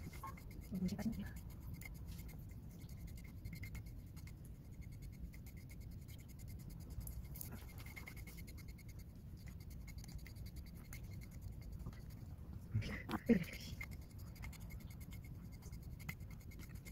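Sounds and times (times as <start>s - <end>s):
metal comb scratching through dog fur: 0.0s - 12.4s, 13.0s - 16.9s.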